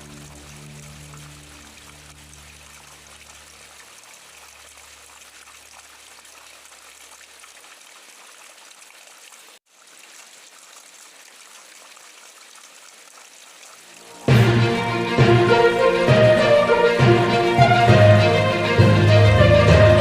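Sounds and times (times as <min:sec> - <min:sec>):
steady rain hiss: 0:00.0 - 0:07.4, 0:09.4 - 0:19.5.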